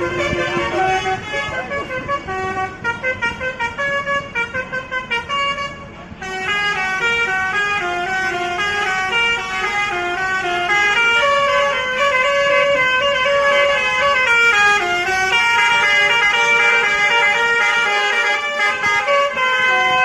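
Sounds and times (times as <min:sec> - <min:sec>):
multi-tone musical air horns: 0:00.0 - 0:20.0.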